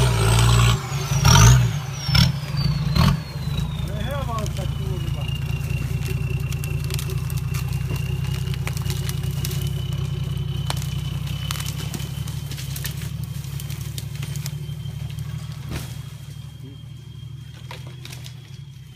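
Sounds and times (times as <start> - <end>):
branches snapping: 0.0 - 16.4, 17.5 - 18.9
engine running at low revs: 0.0 - 18.9.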